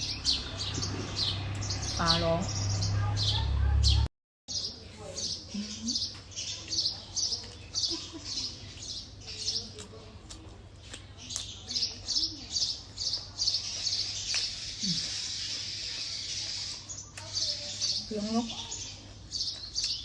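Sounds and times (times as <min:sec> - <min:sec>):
faint voices: 0:00.0 - 0:19.6.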